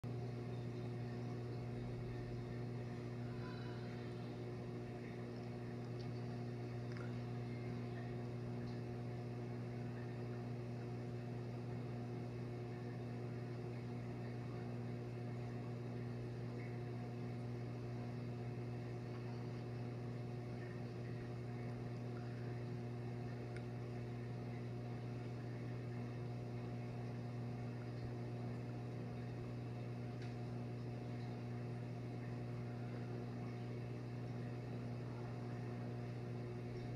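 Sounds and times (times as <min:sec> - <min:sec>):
aquarium pump humming: 0:00.0 - 0:36.9.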